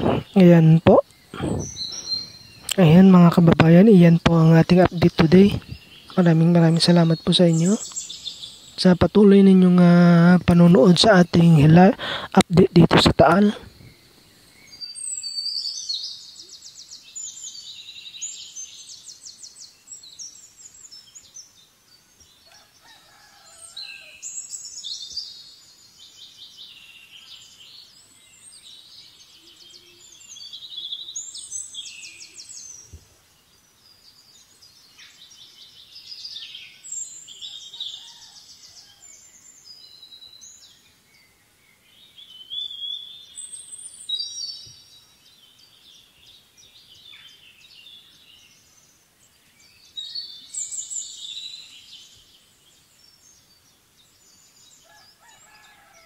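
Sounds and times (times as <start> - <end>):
songbirds singing with trills: 0.0 - 56.0.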